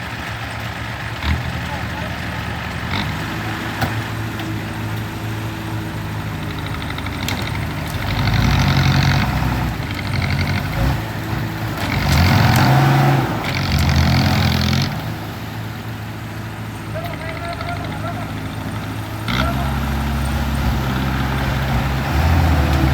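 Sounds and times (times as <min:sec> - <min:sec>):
heavy machine engine revving: 0:00.0 - 0:22.9.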